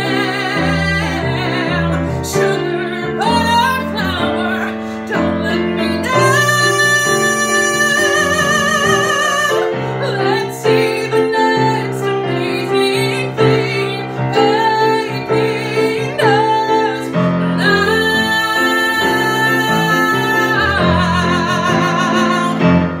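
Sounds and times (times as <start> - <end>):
person singing: 0.0 - 23.0
piano accompaniment: 0.0 - 23.0.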